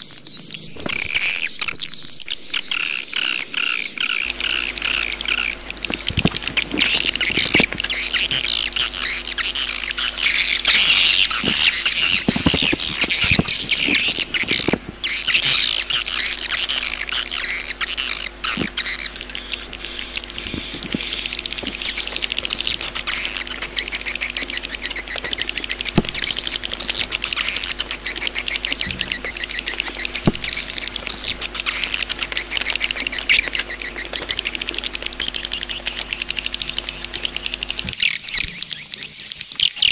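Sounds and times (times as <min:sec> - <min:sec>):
swiftlets twittering and trilling: 0:00.0 - 0:39.9.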